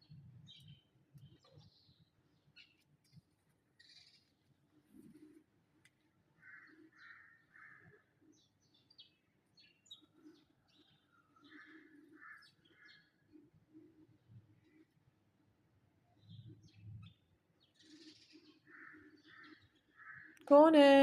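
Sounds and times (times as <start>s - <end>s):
faint birds chirping: 0.0s - 20.7s.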